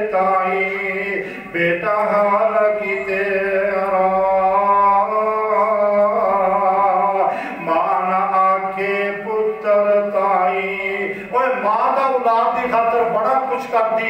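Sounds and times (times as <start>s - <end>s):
man chanting in held notes: 0.0s - 14.0s.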